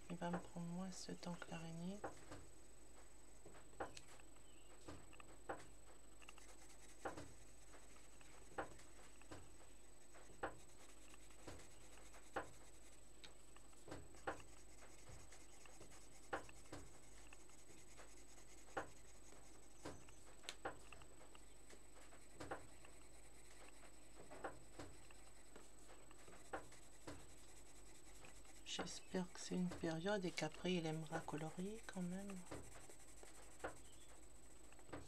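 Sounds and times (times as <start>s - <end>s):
pencil scratching on paper: 0.0s - 35.0s.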